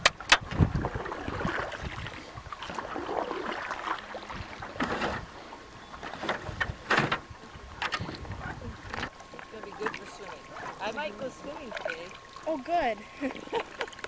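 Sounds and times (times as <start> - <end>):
paddle strokes splashing in water: 0.0 - 14.0.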